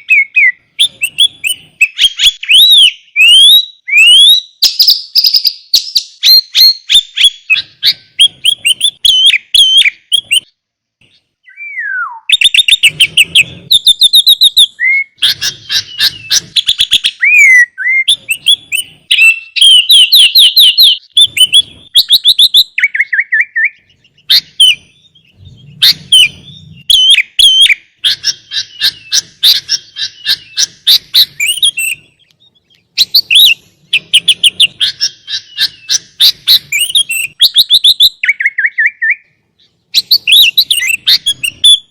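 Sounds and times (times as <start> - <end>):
bulbul song: 0.0 - 41.9.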